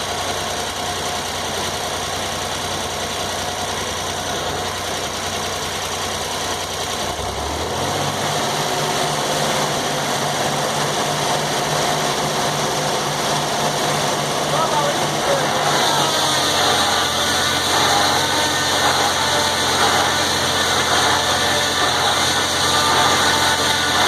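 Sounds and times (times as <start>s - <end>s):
circular sawmill running: 0.0s - 24.0s.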